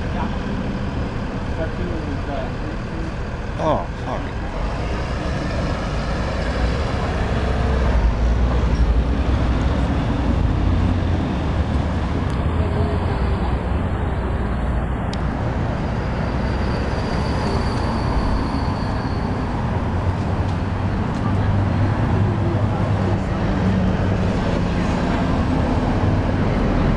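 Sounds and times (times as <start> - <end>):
street traffic rumble: 0.0 - 26.9.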